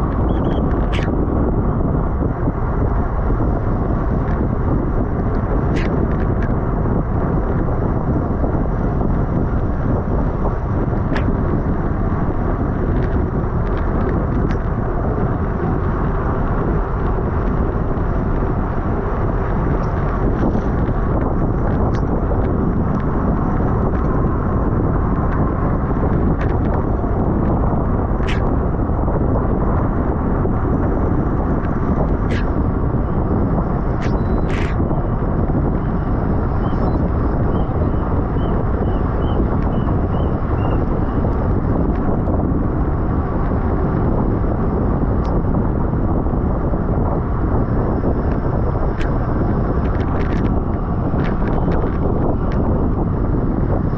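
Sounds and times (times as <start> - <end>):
wind rush over microphone: 0.0 - 53.9.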